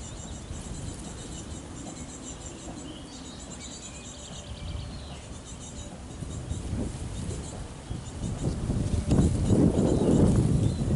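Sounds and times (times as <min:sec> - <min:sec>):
bird trill: 0:00.0 - 0:10.9
songbirds chirping: 0:00.0 - 0:10.9.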